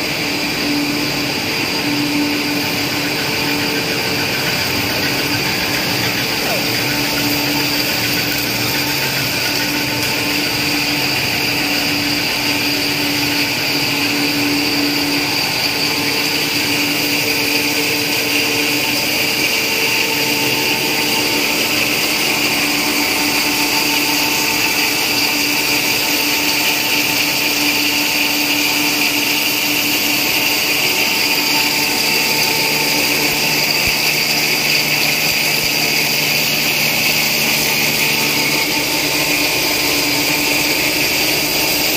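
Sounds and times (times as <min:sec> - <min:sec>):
machinery hum and whir: 0:00.0 - 0:41.9
steady whining tones: 0:00.0 - 0:41.9.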